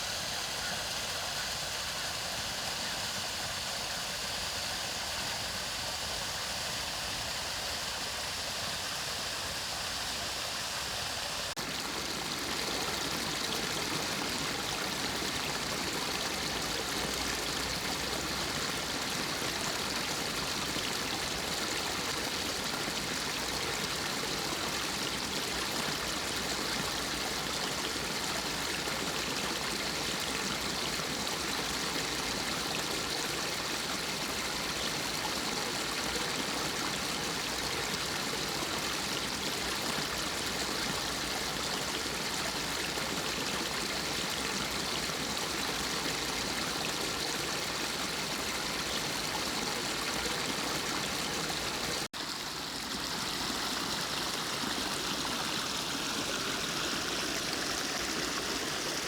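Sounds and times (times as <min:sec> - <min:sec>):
stream flowing over rocks: 0:10.8 - 0:59.0.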